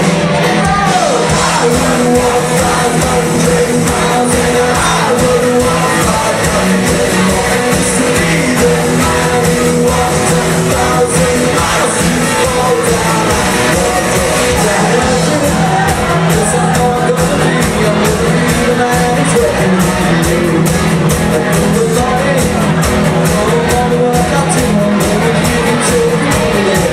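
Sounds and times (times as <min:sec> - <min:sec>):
live band playing amplified music: 0:00.0 - 0:26.9
person singing: 0:00.0 - 0:26.9
steady drum beat: 0:00.0 - 0:26.9.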